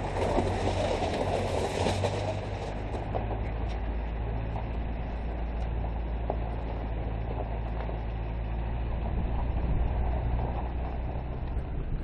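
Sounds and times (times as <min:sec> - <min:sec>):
car engine drone: 0:00.0 - 0:12.0
road rumble: 0:00.0 - 0:12.0.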